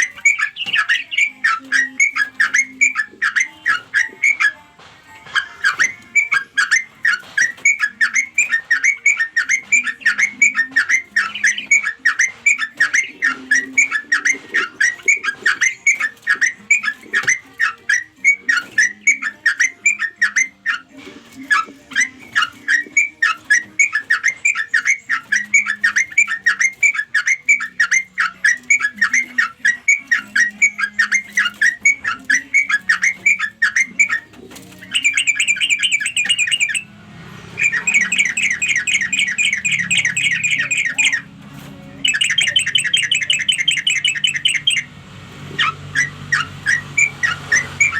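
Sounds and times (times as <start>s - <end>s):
bulbul chattering call: 0.0s - 47.9s.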